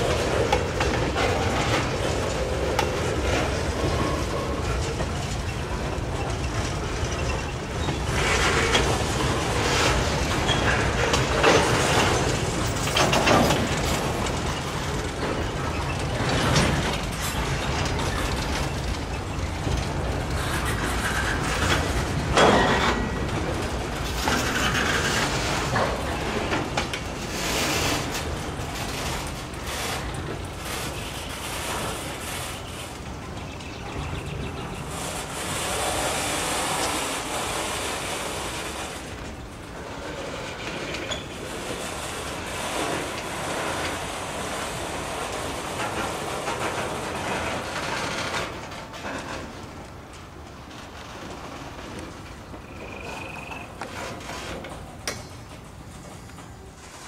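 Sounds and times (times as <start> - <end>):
train rolling past on rails: 0.0 - 57.0.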